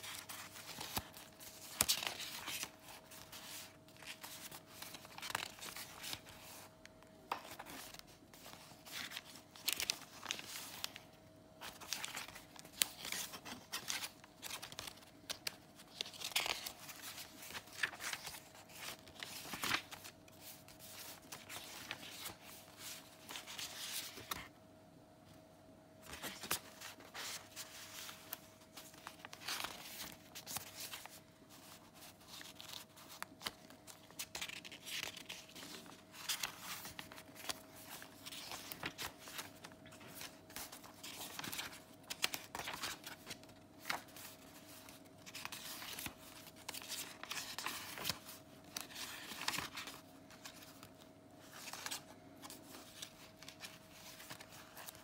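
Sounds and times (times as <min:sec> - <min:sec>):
paper pages rustling and flapping: 0:00.0 - 0:24.5, 0:26.0 - 0:55.0
faint steady hum: 0:00.0 - 0:55.0.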